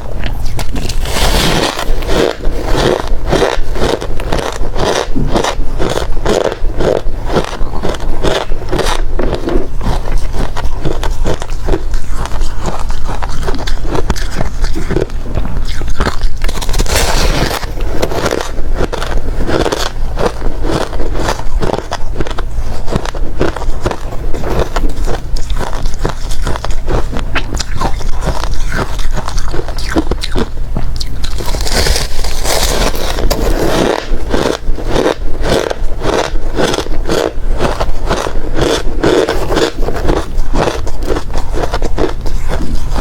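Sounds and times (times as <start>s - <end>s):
ice crunching in mouth: 0.0s - 43.0s.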